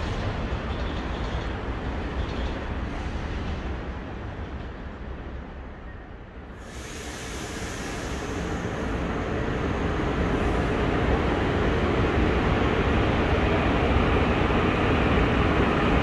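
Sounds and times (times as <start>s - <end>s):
train pulling into station: 0.0s - 16.0s.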